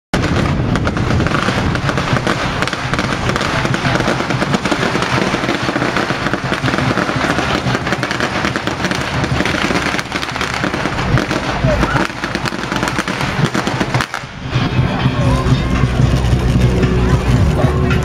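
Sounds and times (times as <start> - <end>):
firecrackers crackling: 0.2 - 18.0.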